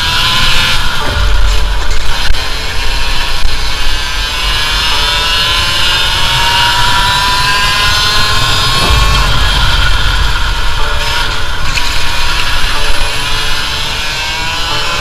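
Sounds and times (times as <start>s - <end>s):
kart engine at full throttle: 0.0s - 15.0s
low rumble: 0.7s - 13.8s.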